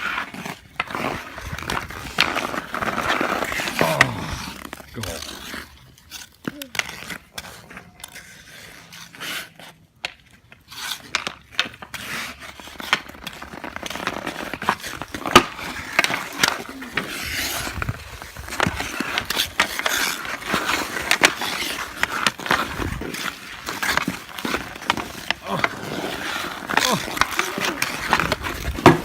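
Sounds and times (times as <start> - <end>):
hockey sticks clacking: 0.0 - 29.0
skate blades scraping ice: 0.0 - 29.0.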